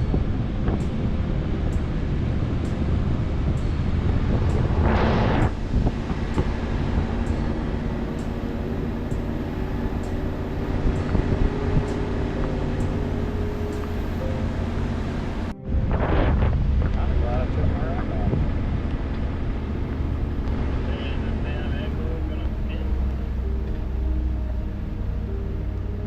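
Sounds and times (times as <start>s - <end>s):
wind on microphone: 0.0s - 21.3s
vehicle engine and road rumble: 0.0s - 26.0s.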